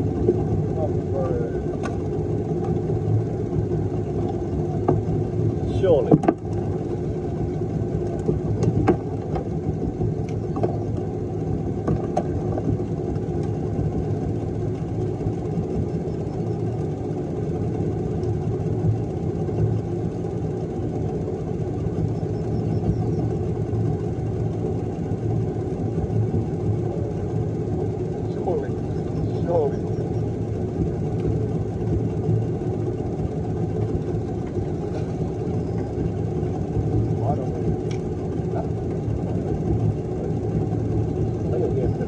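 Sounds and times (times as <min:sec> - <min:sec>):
outboard motor idling: 0:00.0 - 0:42.0.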